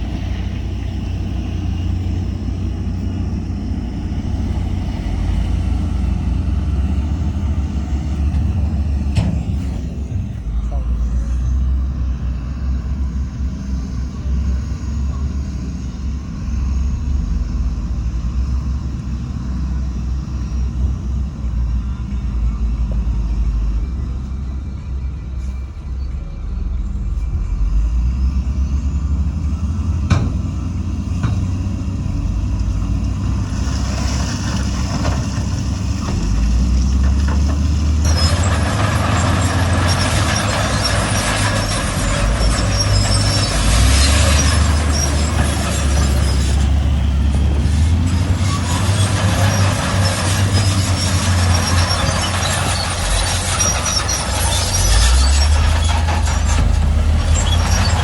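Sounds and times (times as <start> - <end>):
heavy diesel engines working: 0.0 - 58.0.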